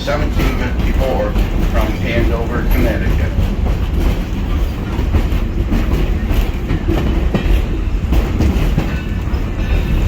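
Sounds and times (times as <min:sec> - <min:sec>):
train rumble: 0:00.0 - 0:10.0
wheels clacking over rails: 0:00.0 - 0:10.0.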